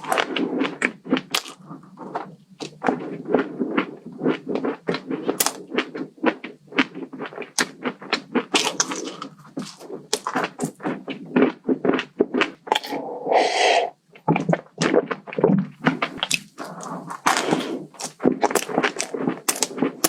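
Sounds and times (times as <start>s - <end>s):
crunchy food chewing: 0.0s - 20.0s.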